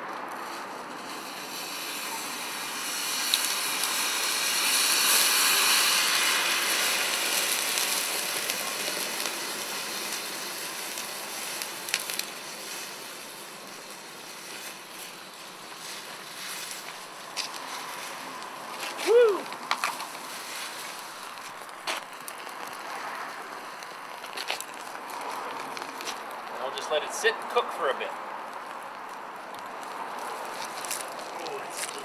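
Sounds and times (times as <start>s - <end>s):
sharp cracks: 0.0s - 13.2s, 16.5s - 32.0s
thermite burning with rushing noise: 0.0s - 32.0s.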